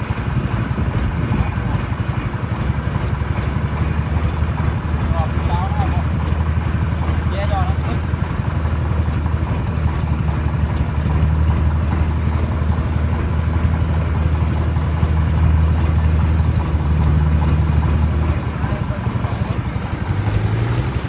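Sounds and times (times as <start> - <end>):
farm machine engine droning: 0.0 - 21.0.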